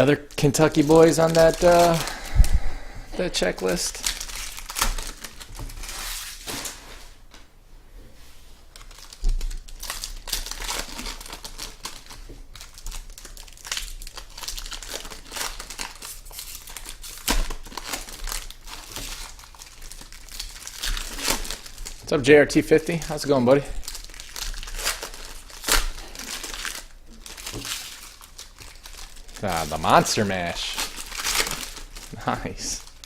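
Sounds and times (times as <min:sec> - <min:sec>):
wrappers crinkling and tearing: 0:00.0 - 0:02.5, 0:03.4 - 0:06.9, 0:08.7 - 0:33.0.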